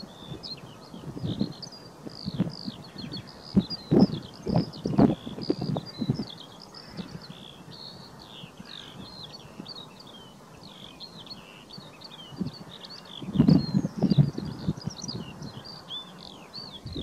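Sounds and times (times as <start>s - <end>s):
wind buffeting microphone: 0.0s - 9.9s, 11.1s - 17.0s
skylark singing: 0.0s - 17.0s.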